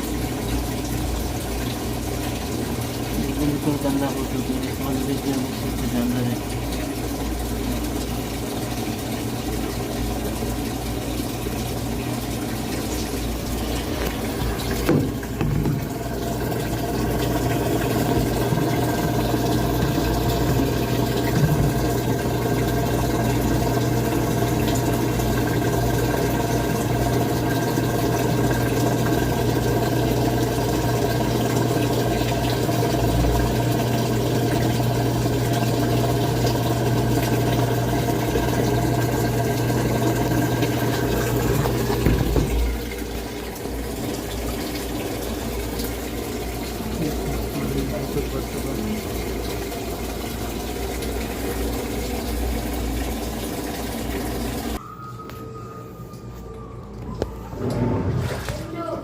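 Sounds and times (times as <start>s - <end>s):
washing machine humming: 0.0s - 59.0s
water running in: 0.0s - 59.0s.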